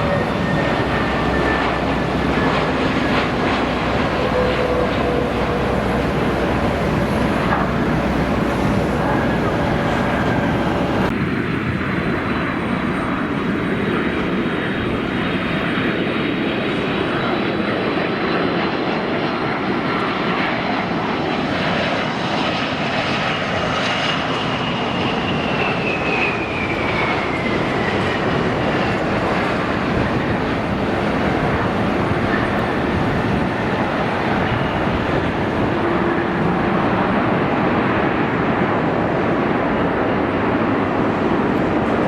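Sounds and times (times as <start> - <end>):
airliner engines running: 0.0 - 42.0.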